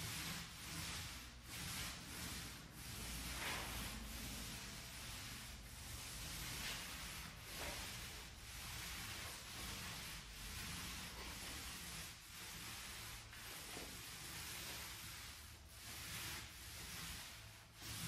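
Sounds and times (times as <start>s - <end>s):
paint roller rubbing on wall: 0.0s - 18.0s.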